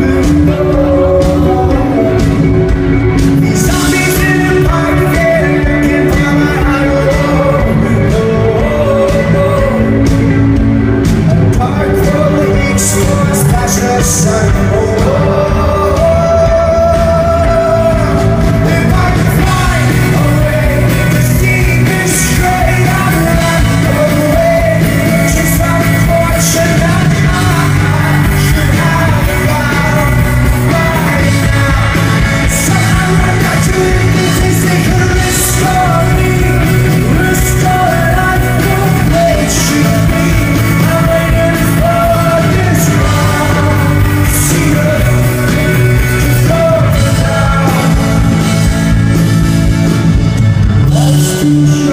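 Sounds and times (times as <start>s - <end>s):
lead singer: 0.0s - 51.9s
rock band playing live: 0.0s - 51.9s.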